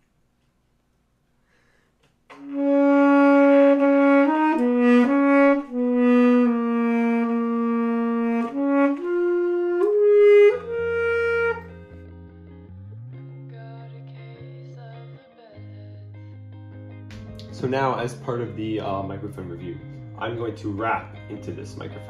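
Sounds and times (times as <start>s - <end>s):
saxophone melody: 2.3s - 16.2s, 17.1s - 22.0s
low background chord: 2.4s - 22.0s.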